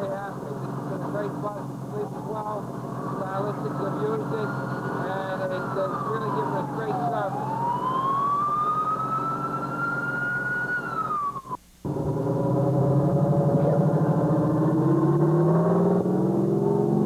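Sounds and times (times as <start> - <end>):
engine running: 0.0 - 17.0
siren wailing: 2.0 - 17.0.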